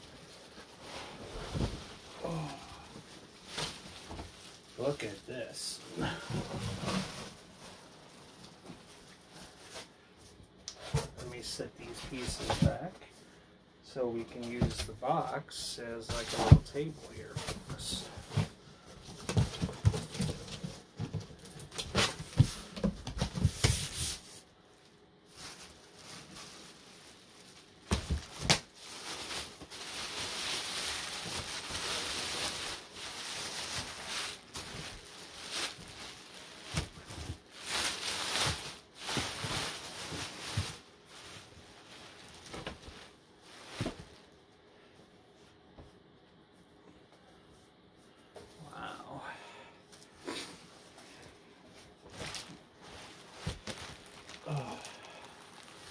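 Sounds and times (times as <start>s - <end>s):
plastic and foam rustling: 0.0s - 13.2s, 13.9s - 46.0s, 49.9s - 55.9s.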